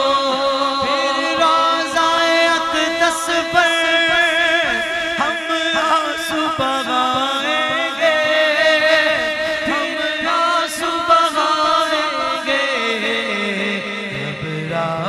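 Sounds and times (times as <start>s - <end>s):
men singing over loudspeaker: 0.0s - 15.0s.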